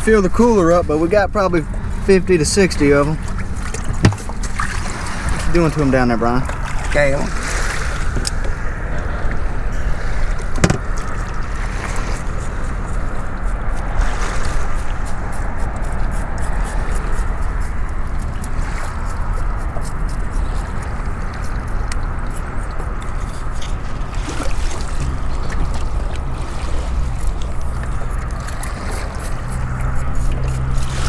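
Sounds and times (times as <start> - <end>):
water sloshing against boat hull: 0.0 - 31.0
wind rumble on microphone: 0.0 - 31.0.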